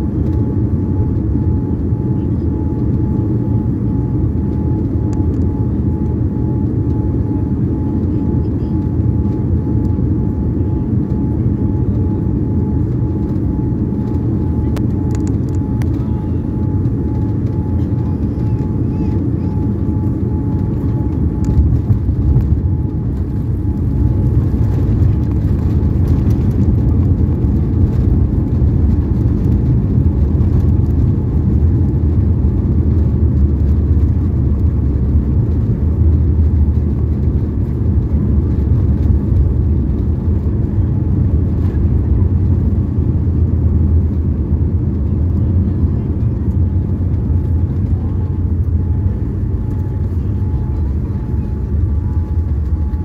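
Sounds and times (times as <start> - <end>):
airliner cabin rumble: 0.0 - 53.0.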